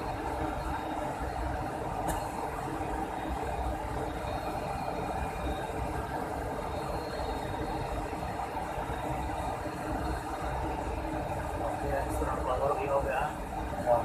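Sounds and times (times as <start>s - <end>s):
airliner engines rumbling: 0.0s - 14.0s.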